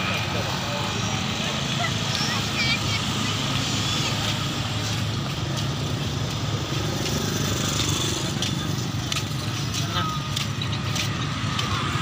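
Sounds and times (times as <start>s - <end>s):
scooters and cars passing: 0.0s - 12.0s.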